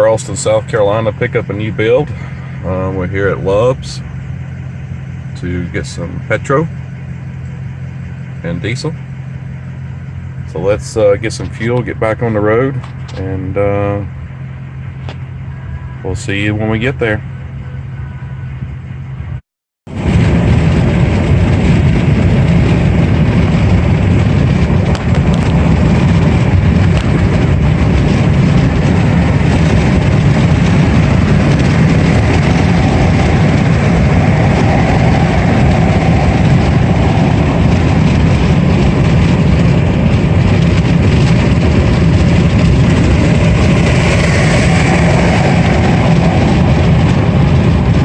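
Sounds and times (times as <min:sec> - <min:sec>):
truck road and engine rumble: 0:00.0 - 0:48.0.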